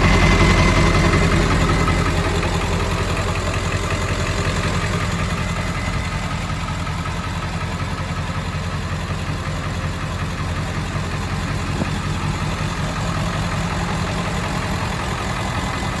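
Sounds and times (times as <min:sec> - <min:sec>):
engine idling with low rumble: 0:00.0 - 0:16.0.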